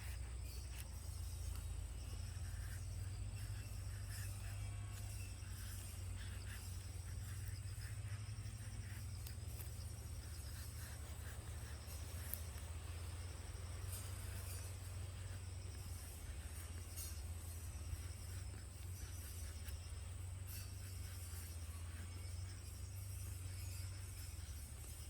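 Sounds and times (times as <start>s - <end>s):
insects chirping: 0.0s - 25.0s
steady low hum: 0.0s - 25.0s.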